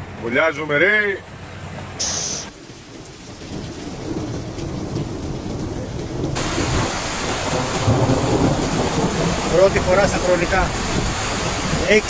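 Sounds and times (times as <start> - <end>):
rushing floodwater: 0.0 - 12.0
rain hissing: 2.0 - 12.0.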